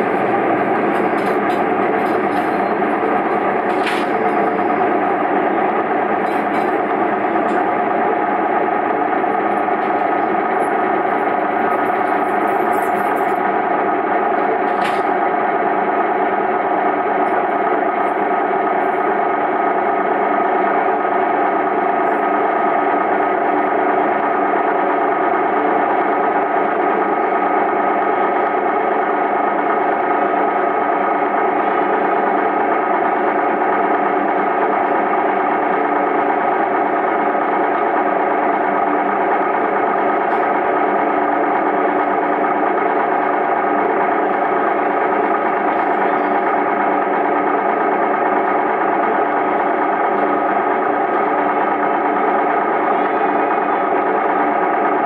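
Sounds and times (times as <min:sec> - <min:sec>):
diesel railcar idling: 0:00.0 - 0:55.0.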